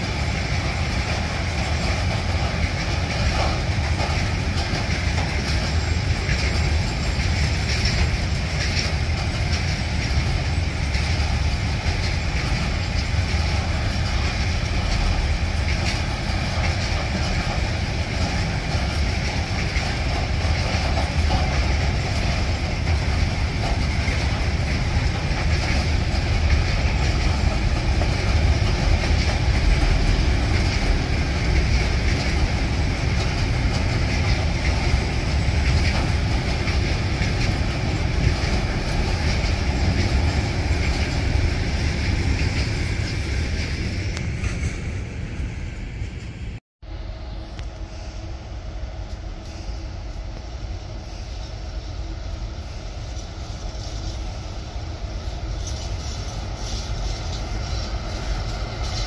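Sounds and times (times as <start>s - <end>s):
electric locomotive humming: 0.0s - 59.0s
freight train rumbling past: 0.0s - 59.0s.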